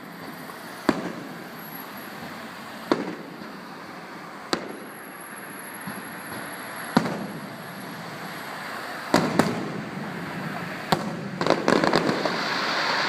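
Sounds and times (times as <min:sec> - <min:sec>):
crowd hubbub: 0:00.0 - 0:11.9
fireworks booming overhead: 0:00.0 - 0:13.0.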